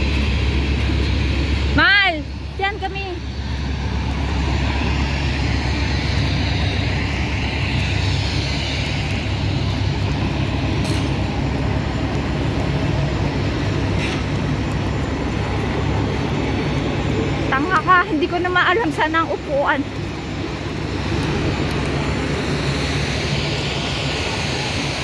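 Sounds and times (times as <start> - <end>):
jet aircraft roar: 0.0 - 25.0.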